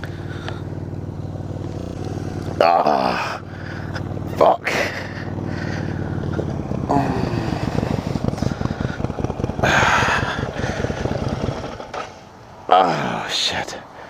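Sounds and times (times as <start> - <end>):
motorcycle engine chugging: 0.0 - 12.6.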